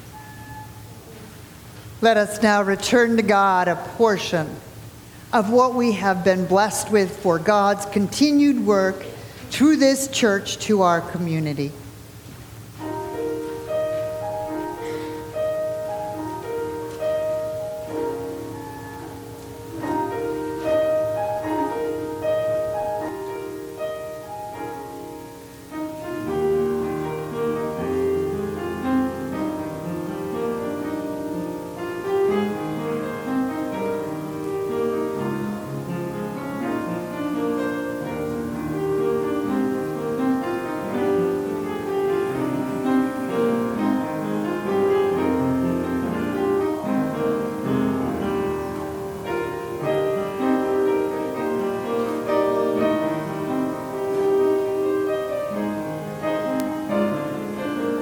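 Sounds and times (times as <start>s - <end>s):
slow piano music: 0.0s - 9.8s, 10.9s - 58.0s.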